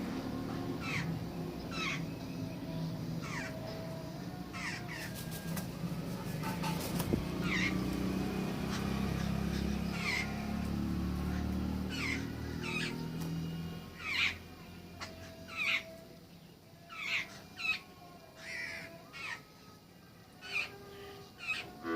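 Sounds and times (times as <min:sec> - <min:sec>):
birds making harsh calls: 0:00.5 - 0:02.4, 0:03.0 - 0:19.5, 0:20.4 - 0:21.9.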